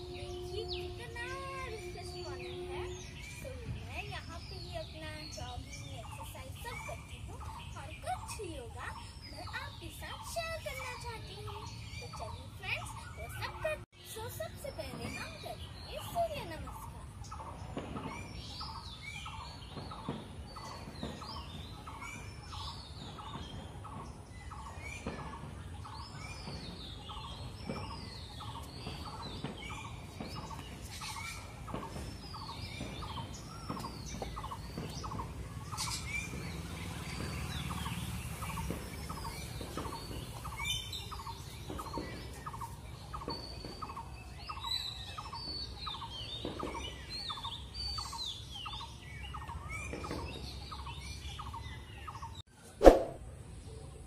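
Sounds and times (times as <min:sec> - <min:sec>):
high downward bird chirps: 0:00.0 - 0:53.2.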